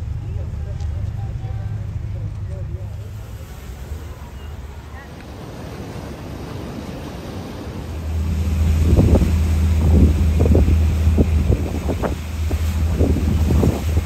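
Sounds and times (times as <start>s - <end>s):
motorboat low hum: 0.0s - 14.0s
wind buffeting microphone: 0.0s - 14.0s.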